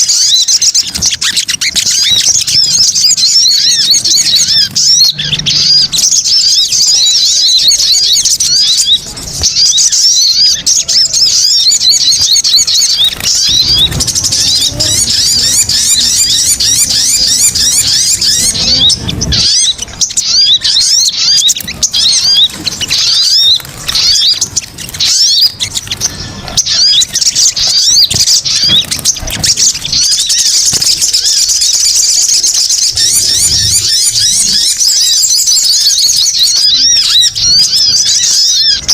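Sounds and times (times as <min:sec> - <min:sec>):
high-pitched bird chirps: 0:00.0 - 0:38.9.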